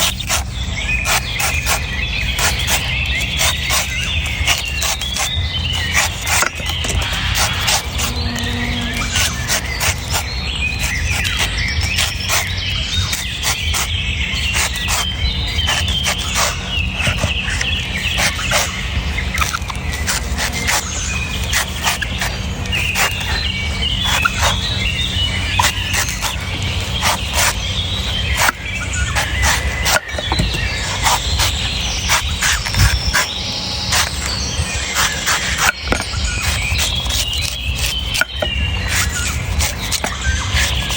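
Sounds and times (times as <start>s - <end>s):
knife chopping coconuts: 0.0s - 18.7s, 19.3s - 23.4s, 25.5s - 27.6s, 28.2s - 33.3s, 35.0s - 40.9s
birds chirping: 0.0s - 40.9s.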